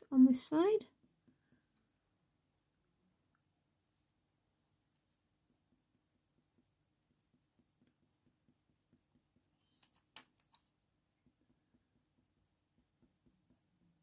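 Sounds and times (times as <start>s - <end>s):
coloured pencil scratching on paper: 0.1s - 2.1s, 3.8s - 14.0s.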